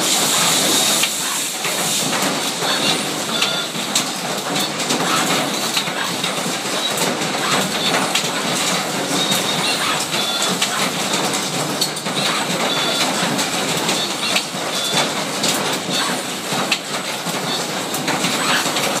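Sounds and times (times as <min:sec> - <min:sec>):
machine mechanical clatter: 0:00.0 - 0:19.0
sharp clicks and clacks: 0:00.1 - 0:19.0.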